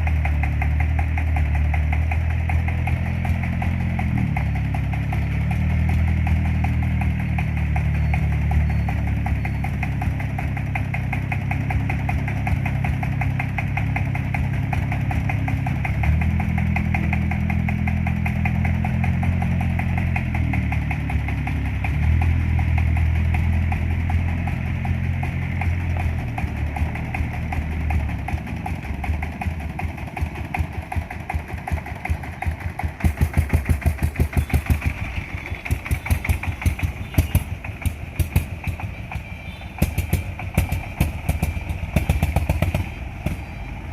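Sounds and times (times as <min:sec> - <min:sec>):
engine pulsing: 0:00.0 - 0:43.9.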